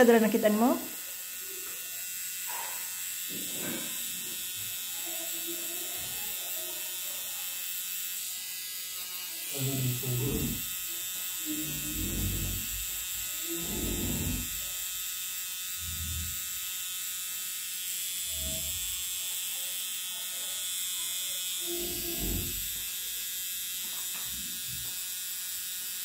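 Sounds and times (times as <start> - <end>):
tattoo pen buzzing: 0.0 - 26.0.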